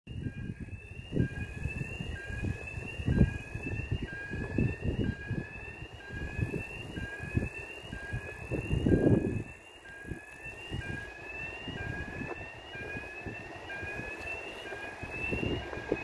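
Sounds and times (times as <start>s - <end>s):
electronic warning chirp: 0.1s - 16.0s
wind buffeting microphone: 0.1s - 16.0s.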